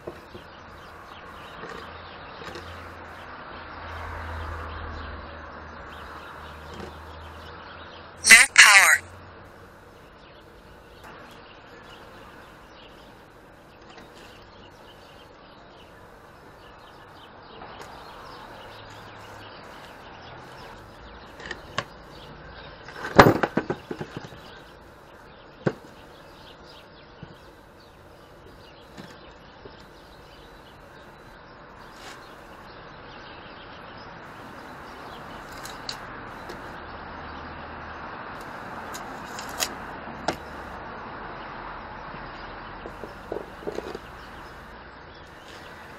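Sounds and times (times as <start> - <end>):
faint steady background noise: 0.0 - 45.9.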